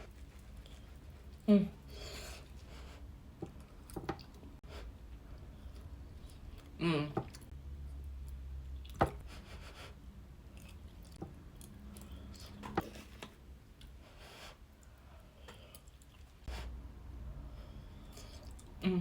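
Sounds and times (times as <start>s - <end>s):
quiet chewing: 0.0s - 4.6s, 5.3s - 9.2s, 10.4s - 16.5s, 18.0s - 18.8s
low steady hum: 0.0s - 19.0s.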